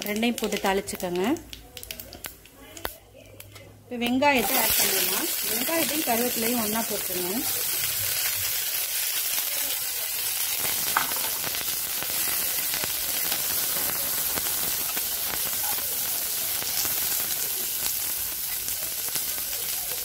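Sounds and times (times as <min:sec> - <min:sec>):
onions sizzling in hot oil: 0:00.0 - 0:03.0, 0:03.9 - 0:20.0.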